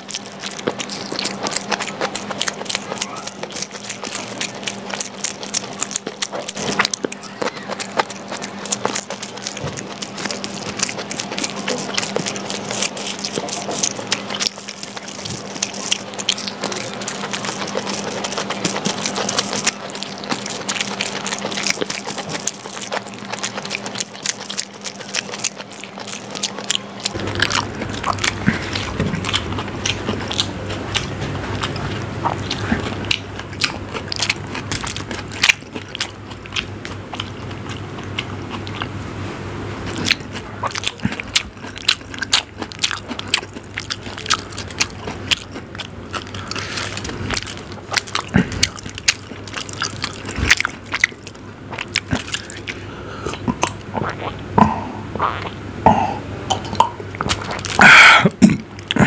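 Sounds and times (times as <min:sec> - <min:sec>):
man chewing with wet smacks: 0:00.0 - 0:59.0.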